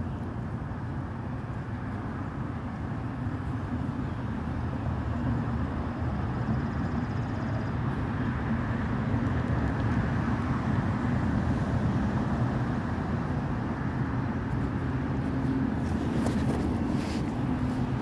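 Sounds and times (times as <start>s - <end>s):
low rumble of road traffic: 0.0s - 18.0s.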